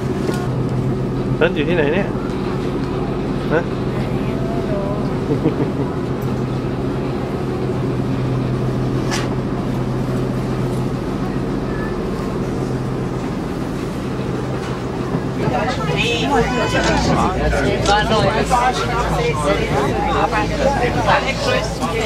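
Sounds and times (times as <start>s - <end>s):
ship engine droning: 0.0s - 22.0s.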